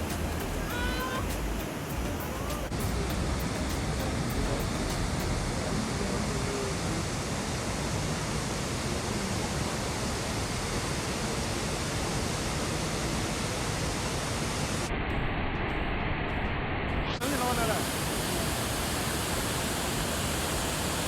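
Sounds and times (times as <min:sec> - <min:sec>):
waterfall roaring: 0:00.0 - 0:14.9, 0:17.2 - 0:21.0.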